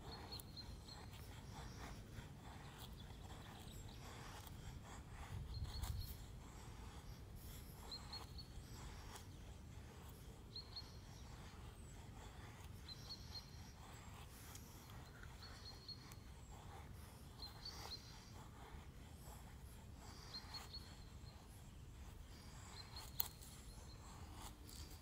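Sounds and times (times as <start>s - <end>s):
faint outdoor rustling: 0.0s - 25.0s
small bird calling: 0.0s - 25.0s.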